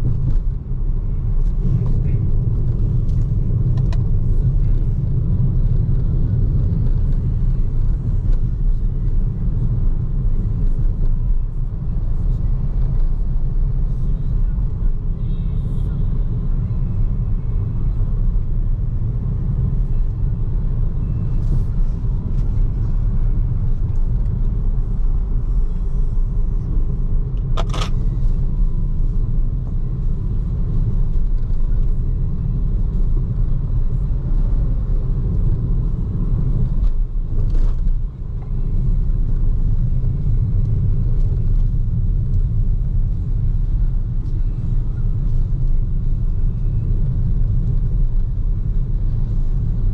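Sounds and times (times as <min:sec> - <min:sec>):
tyre and road noise: 0:00.0 - 0:49.9.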